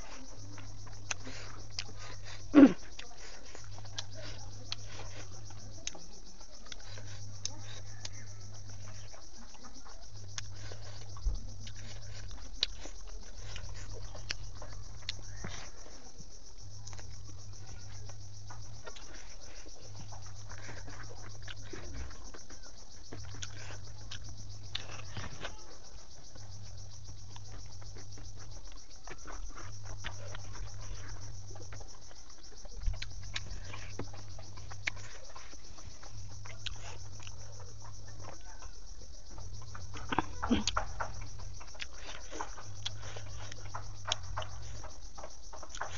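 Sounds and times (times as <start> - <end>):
insects chirring: 0.0 - 45.9
person chewing: 0.0 - 45.9.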